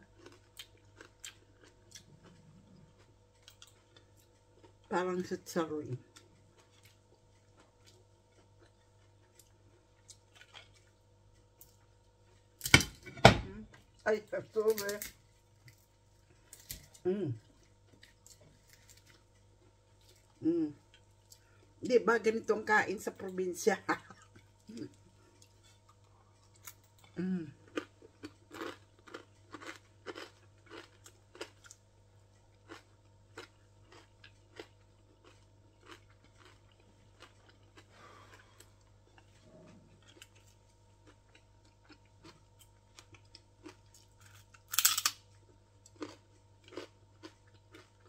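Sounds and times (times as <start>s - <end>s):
person chewing and crunching: 0.0s - 12.8s, 13.7s - 21.8s, 24.0s - 48.0s.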